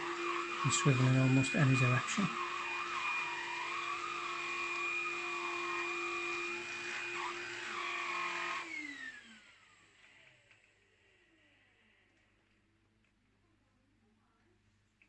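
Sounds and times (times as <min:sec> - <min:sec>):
vacuum cleaner motor whining: 0:00.0 - 0:12.3.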